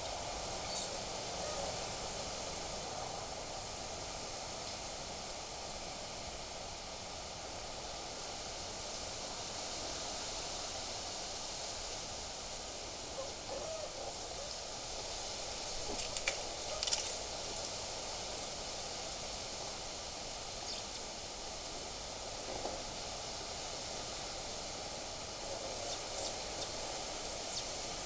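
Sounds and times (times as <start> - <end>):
wind hiss on microphone: 0.0 - 28.0.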